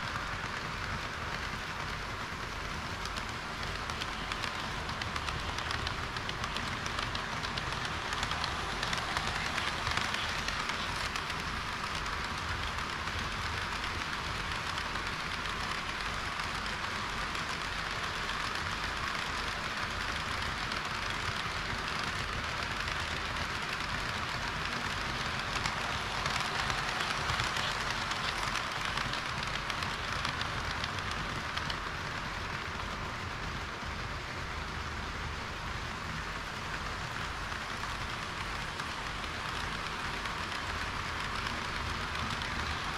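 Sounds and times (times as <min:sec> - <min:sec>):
model train wheels hissing on rails: 0:00.0 - 0:42.9.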